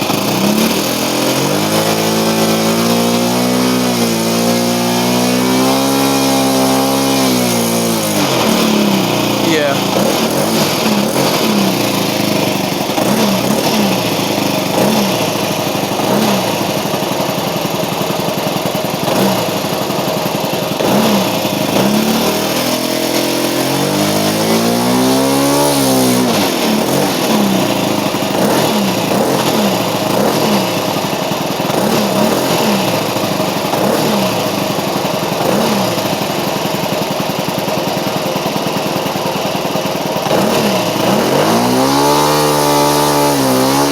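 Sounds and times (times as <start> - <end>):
model airplane engine revving: 0.0 - 43.9.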